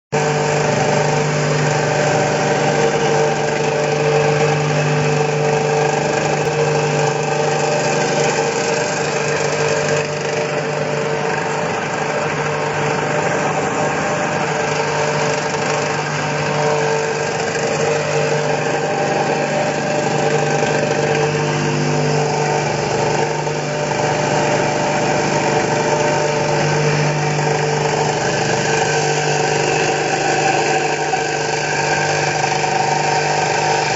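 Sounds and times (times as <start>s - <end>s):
fan humming with air rush: 0.2s - 33.9s.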